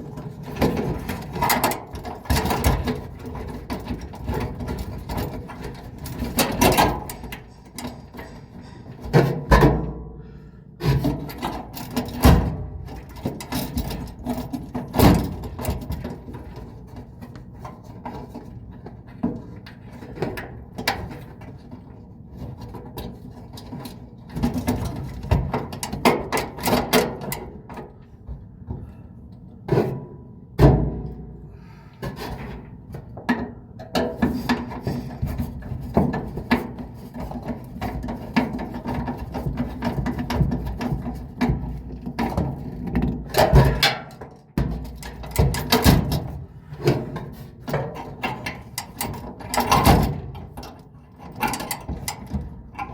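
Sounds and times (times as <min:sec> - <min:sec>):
tools knocking and rattling: 0:00.0 - 0:10.0, 0:10.8 - 0:28.0, 0:32.1 - 0:52.9.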